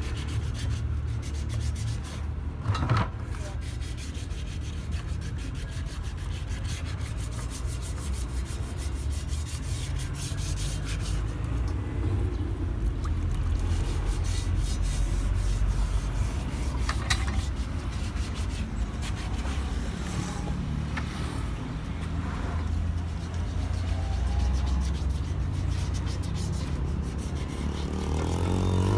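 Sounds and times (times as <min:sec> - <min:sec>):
sandpaper scratching metal rim: 0:00.0 - 0:02.3, 0:03.3 - 0:11.6, 0:13.5 - 0:20.6, 0:22.5 - 0:28.9.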